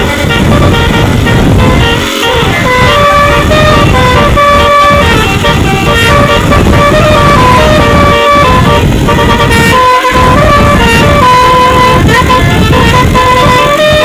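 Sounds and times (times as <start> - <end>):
heavy low-pitched noise: 0.0 - 14.0
multi-tone bus horn melody: 0.0 - 14.0.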